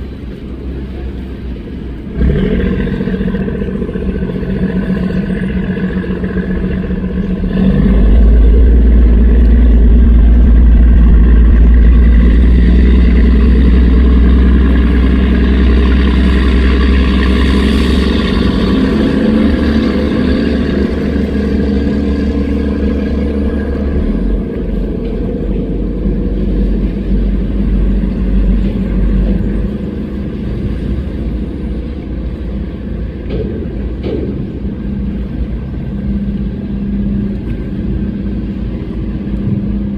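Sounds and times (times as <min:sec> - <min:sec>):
speedboat engines rumbling: 0:00.0 - 0:39.9.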